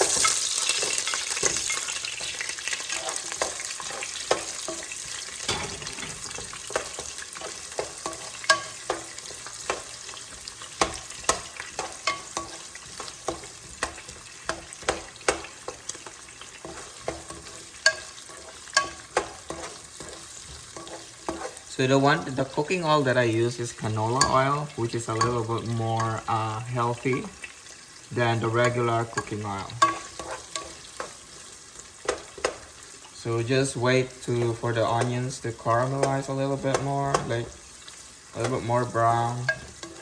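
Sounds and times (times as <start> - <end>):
onions sizzling in a pan: 0.0 - 40.0.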